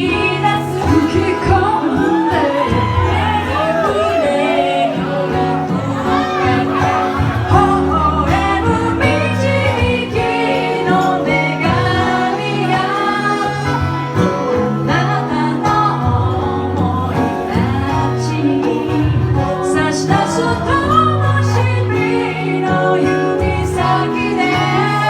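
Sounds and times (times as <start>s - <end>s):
live pop band with singer: 0.0s - 25.0s.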